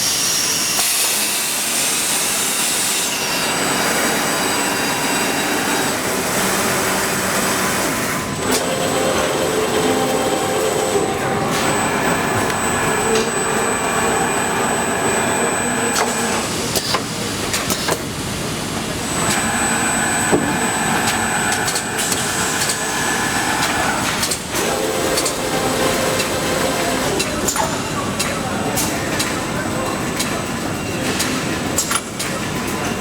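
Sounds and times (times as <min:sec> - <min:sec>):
machinery whirring and whining: 0:00.0 - 0:33.0.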